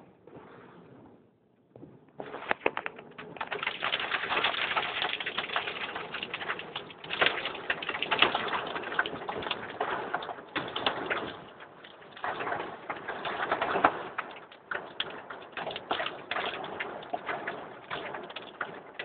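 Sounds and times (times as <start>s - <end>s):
heavy rain pelting down: 2.4s - 19.0s.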